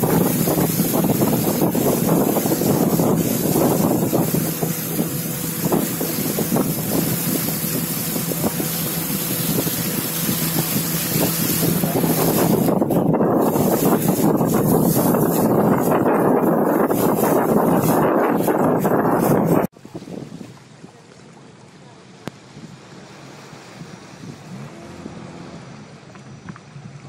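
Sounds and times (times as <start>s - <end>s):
wind buffeting microphone: 0.0s - 21.1s, 22.1s - 27.0s
outboard engine running: 0.0s - 27.0s
rushing water: 0.0s - 27.0s.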